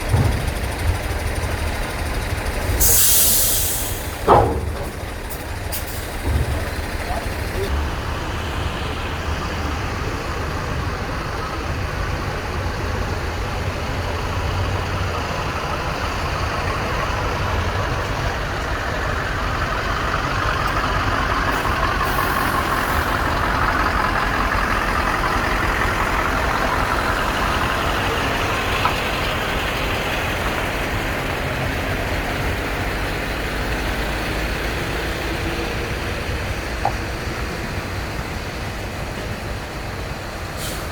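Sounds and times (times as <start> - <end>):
heavy vehicle engine rumbling: 0.0 - 40.9.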